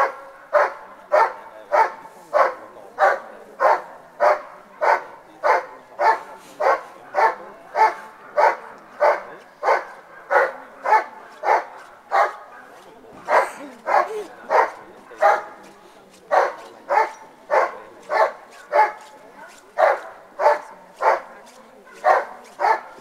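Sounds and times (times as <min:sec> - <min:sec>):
dog barking rhythmically: 0:00.0 - 0:19.1, 0:19.7 - 0:23.0.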